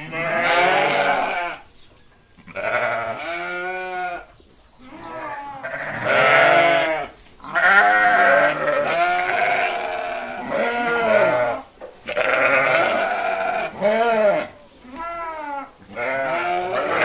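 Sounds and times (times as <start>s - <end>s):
goats bleating: 0.0s - 1.7s, 2.4s - 17.0s.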